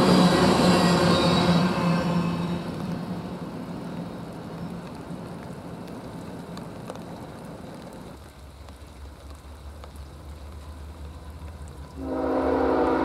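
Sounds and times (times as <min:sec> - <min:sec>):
diesel locomotive rumble: 0:00.0 - 0:13.0
distant freight train rumble: 0:00.0 - 0:13.0.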